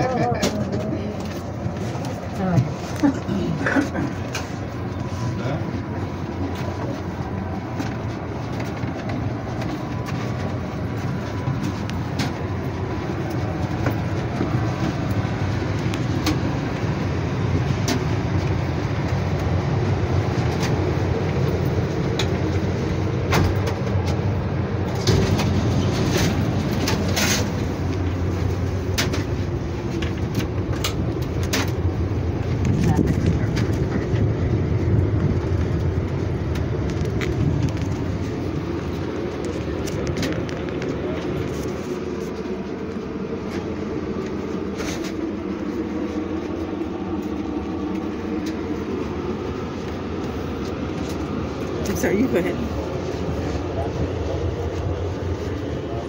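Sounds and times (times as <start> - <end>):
railcar rumble and hum: 0.0 - 56.0.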